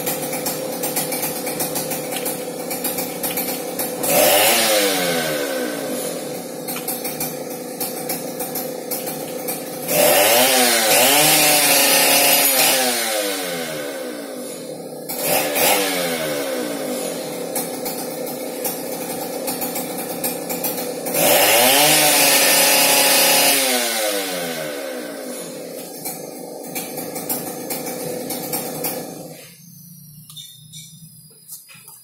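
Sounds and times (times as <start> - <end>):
chainsaw engine idling and revving: 0.0 - 32.0.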